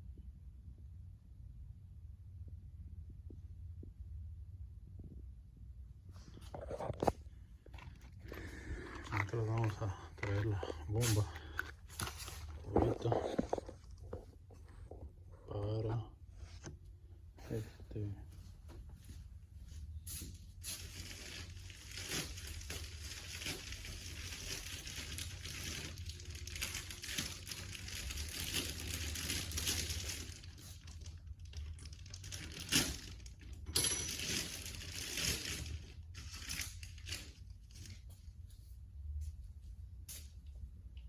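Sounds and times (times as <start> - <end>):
rustling and crinkling handling: 6.0 - 41.0.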